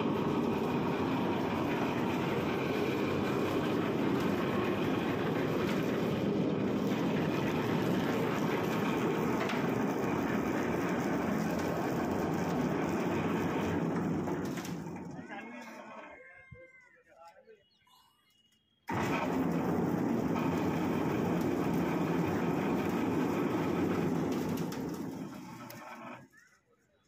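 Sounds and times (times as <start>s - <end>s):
concrete mixer running: 0.0s - 16.9s, 18.9s - 26.5s.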